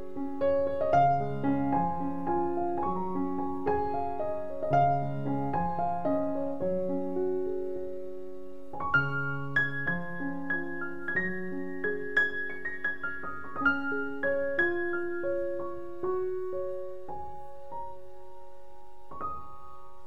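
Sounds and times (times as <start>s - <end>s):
background piano music: 0.0s - 20.0s.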